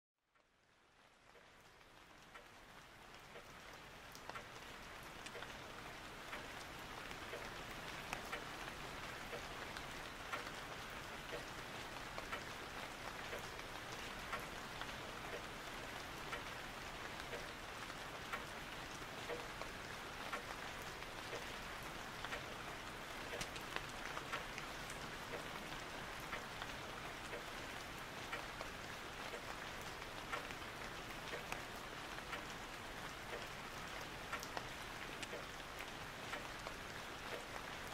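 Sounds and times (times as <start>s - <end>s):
steady rain: 0.2s - 37.9s
rain drop ticks: 0.3s - 37.9s.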